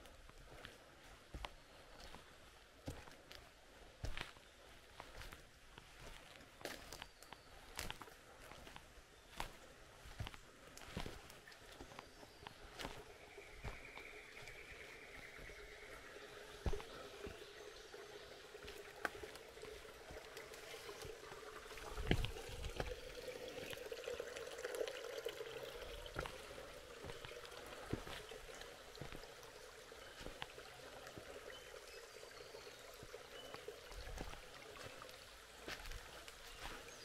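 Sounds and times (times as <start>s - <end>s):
creek water trickling: 0.0s - 37.0s.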